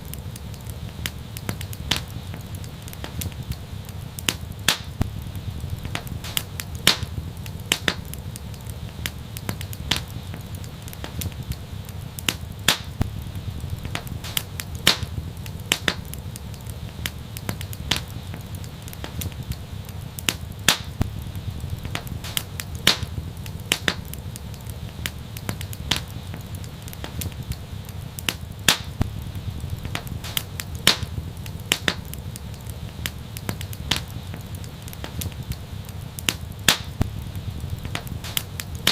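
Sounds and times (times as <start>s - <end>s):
low rumble of burning fire: 0.0s - 38.9s
wood fire crackling: 0.0s - 38.9s.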